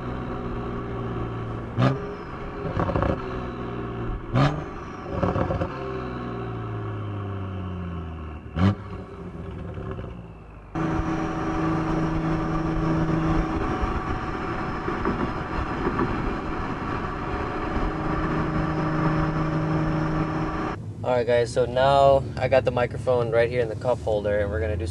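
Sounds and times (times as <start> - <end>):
car exhaust revving: 0.0 - 20.9
exhaust crack: 0.0 - 24.9
steady engine drone: 0.0 - 24.9.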